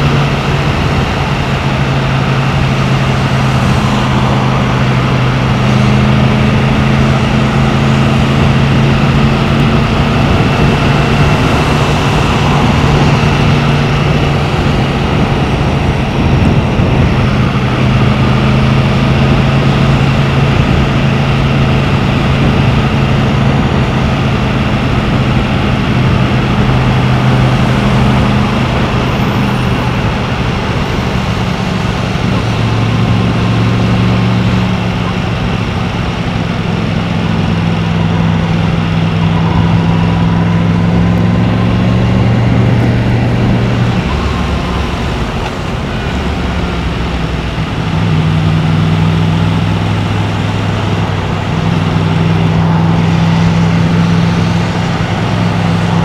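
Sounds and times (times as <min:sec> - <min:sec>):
motorcycle engine running: 0:00.0 - 0:56.0
road noise: 0:00.0 - 0:56.0
wind rush: 0:00.0 - 0:56.0.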